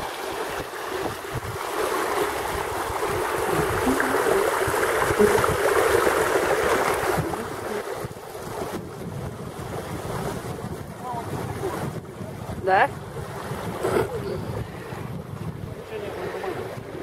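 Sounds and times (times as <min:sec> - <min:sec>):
small waves washing onto sand: 0:00.0 - 0:17.0
wind buffeting microphone: 0:00.5 - 0:17.0.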